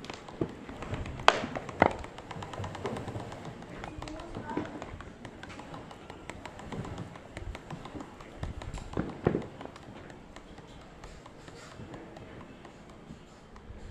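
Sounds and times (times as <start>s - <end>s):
skateboard ticking clicks: 0.0s - 13.9s.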